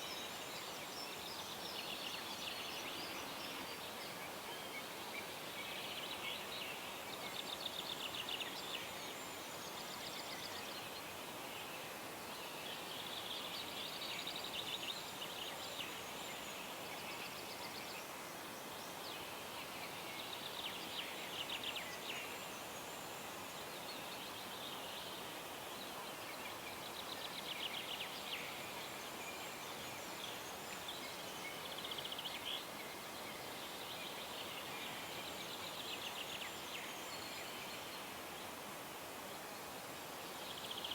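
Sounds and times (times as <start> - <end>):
steady background hiss: 0.0 - 40.9.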